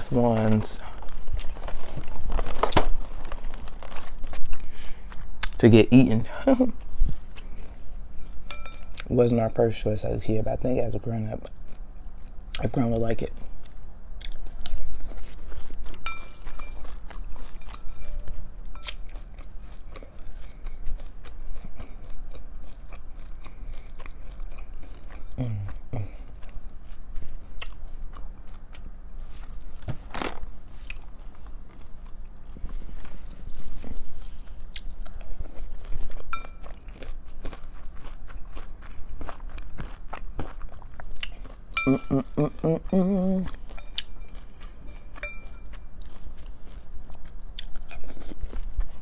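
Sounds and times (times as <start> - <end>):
chewing crunchy cereal: 0.0 - 5.7, 6.8 - 29.5, 30.1 - 49.0.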